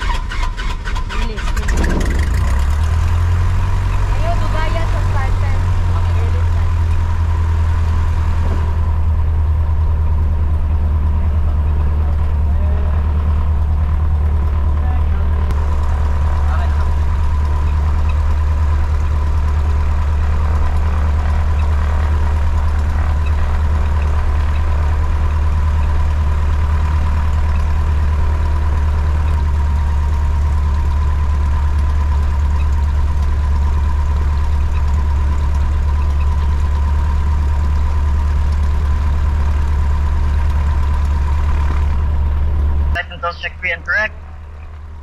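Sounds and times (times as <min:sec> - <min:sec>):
light aircraft engine droning: 0:00.0 - 0:45.0.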